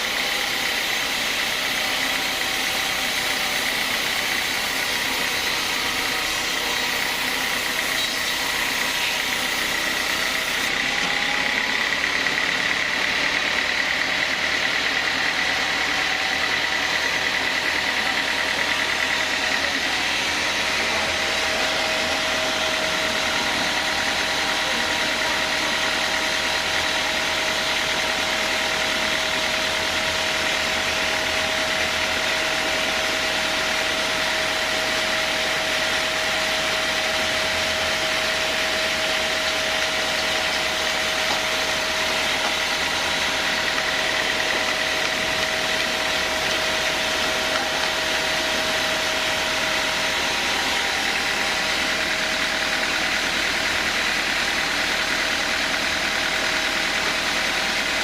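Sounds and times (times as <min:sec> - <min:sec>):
band saw machinery running: 0:00.0 - 0:58.0.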